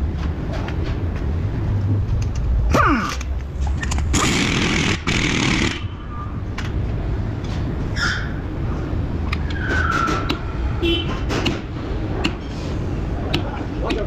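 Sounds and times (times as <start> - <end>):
workshop hum: 0.0 - 14.0.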